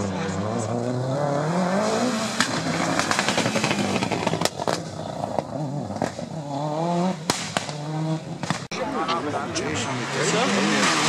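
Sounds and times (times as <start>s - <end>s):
rally car engine revving: 0.0s - 11.0s
tyre noise: 0.0s - 11.0s.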